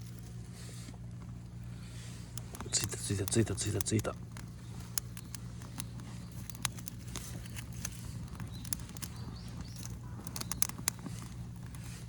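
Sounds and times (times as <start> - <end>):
bonfire crackling and popping: 0.0 - 12.0
steady low hum: 0.0 - 12.0.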